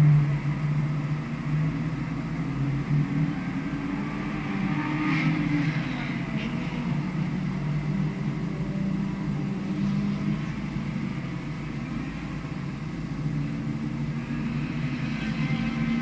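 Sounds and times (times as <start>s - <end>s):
race car engine: 0.0s - 16.0s
wind and road noise: 0.0s - 16.0s.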